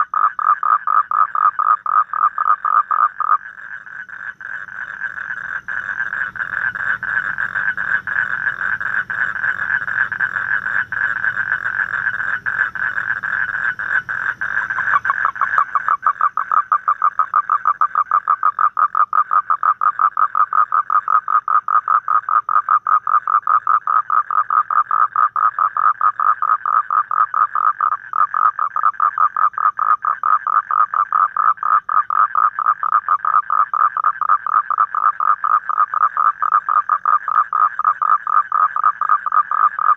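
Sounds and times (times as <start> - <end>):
toad trilling: 0.0 - 39.9.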